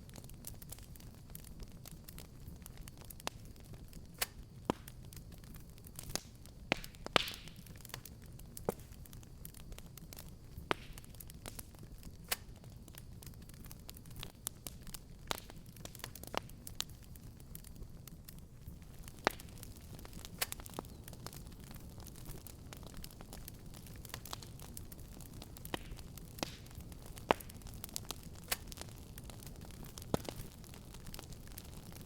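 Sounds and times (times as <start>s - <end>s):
low fire rumble: 0.0s - 32.0s
wood fire crackling and popping: 0.0s - 32.0s.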